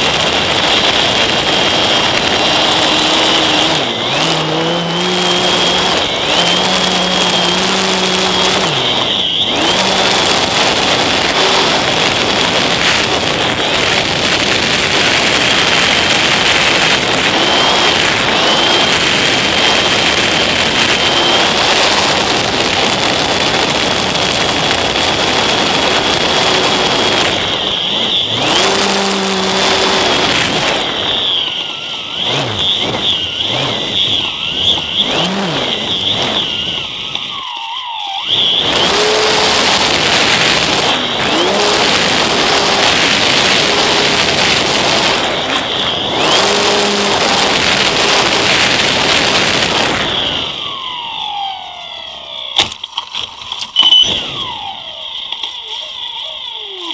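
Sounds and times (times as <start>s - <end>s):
electric motor whine: 0.0s - 56.9s.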